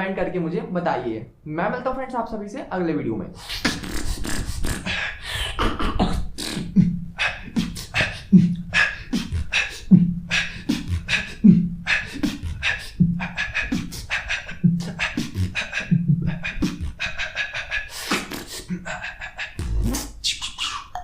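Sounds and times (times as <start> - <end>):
person beatboxing: 3.4 - 21.0.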